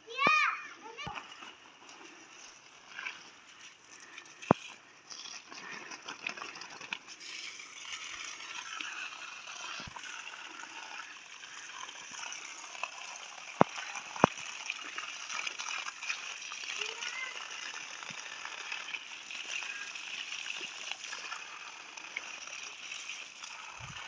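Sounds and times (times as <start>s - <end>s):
running water rushing: 0.9s - 24.0s.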